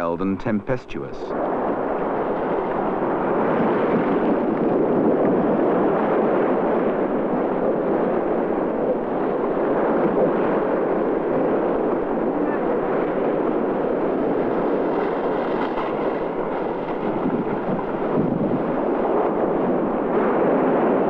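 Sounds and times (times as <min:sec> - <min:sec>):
sea waves and spray rushing: 0:00.0 - 0:21.0.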